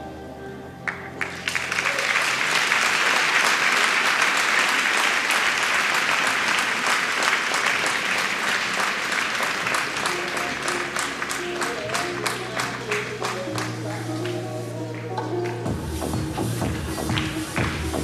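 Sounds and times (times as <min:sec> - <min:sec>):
audience applauding: 0:00.8 - 0:15.7, 0:16.6 - 0:18.0.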